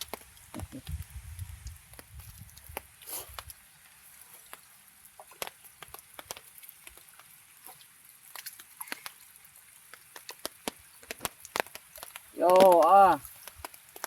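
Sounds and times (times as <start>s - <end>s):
faint steady hiss: 0.0s - 14.0s
raindrops ticking: 0.0s - 14.0s.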